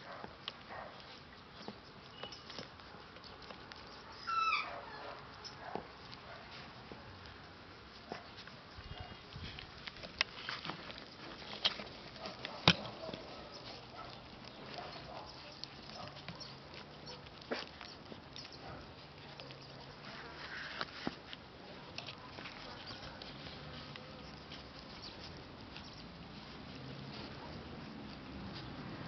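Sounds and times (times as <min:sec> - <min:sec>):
paws tapping and clicking: 0:00.0 - 0:29.0.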